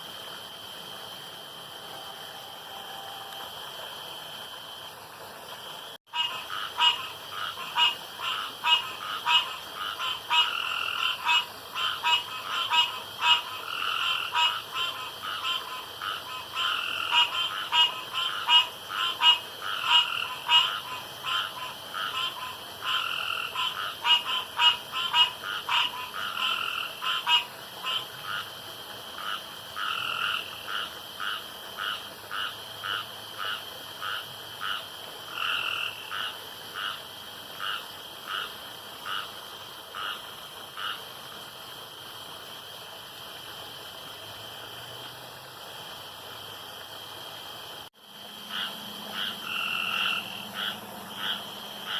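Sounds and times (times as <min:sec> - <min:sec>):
frogs croaking: 0:00.0 - 0:44.8, 0:45.9 - 0:51.9.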